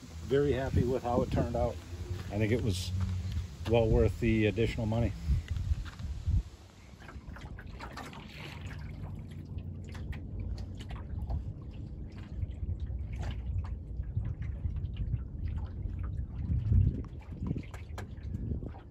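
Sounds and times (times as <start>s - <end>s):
steady low rumble: 0.0s - 18.9s
water lapping against hull: 0.0s - 18.9s.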